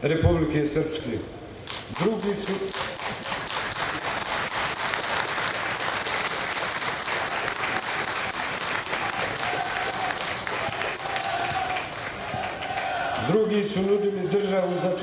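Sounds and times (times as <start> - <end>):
crowd applauding: 1.6 - 15.0.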